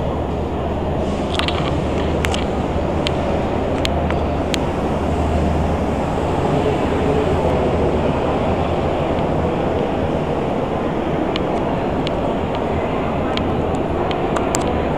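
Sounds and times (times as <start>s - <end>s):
rumbling din of exhibition hall: 0.0s - 14.9s.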